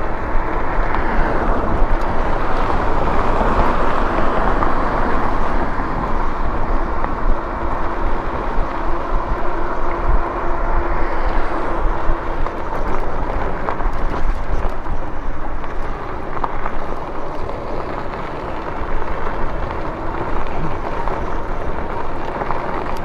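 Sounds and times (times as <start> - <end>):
road noise: 0.0 - 23.0
wind rumble on microphone: 0.0 - 23.0.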